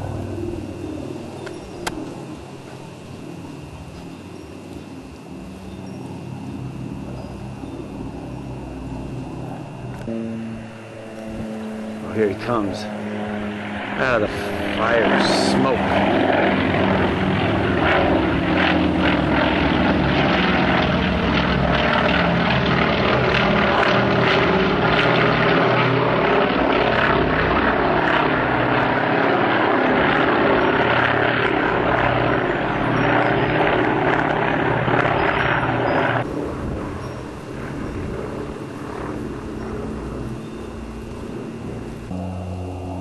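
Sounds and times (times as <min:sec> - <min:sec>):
propeller aircraft drone: 0:00.0 - 0:43.0.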